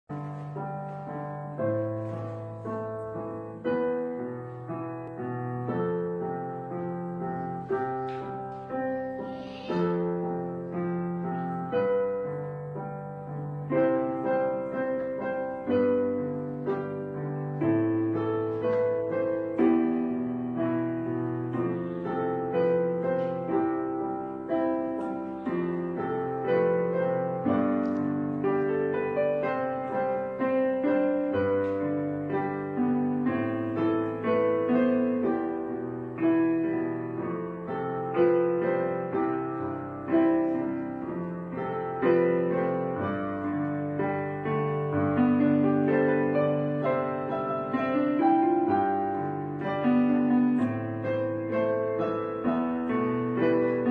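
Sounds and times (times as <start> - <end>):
slow piano music: 0.0 - 53.9.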